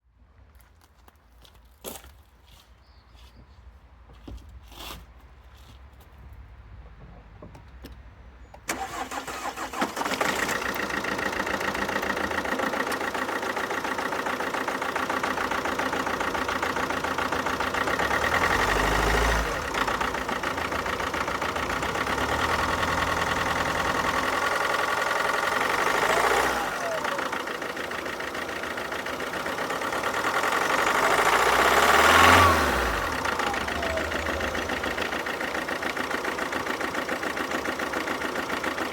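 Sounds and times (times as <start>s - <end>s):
diesel engine starting and running: 6.4s - 38.9s.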